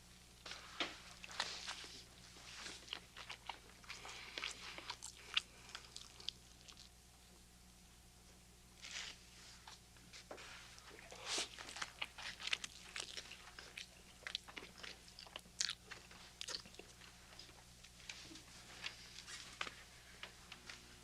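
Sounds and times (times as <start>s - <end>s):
faint room hum: 0.0s - 21.0s.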